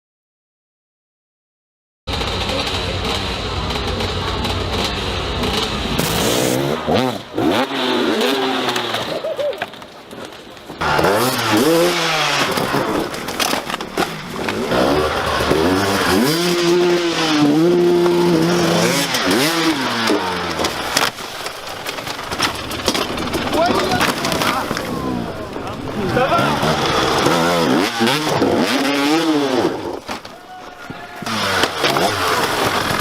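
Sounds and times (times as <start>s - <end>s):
dirt bike engines revving: 2.1s - 33.0s.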